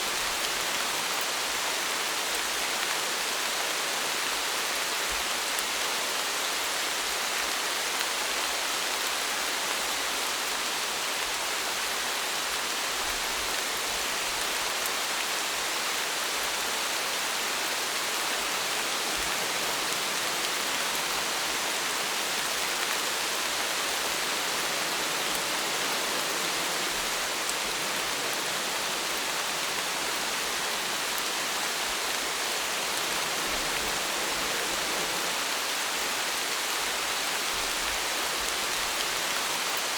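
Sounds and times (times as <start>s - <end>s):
patter of raindrops: 0.0s - 39.9s
steady rain falling: 0.0s - 39.9s.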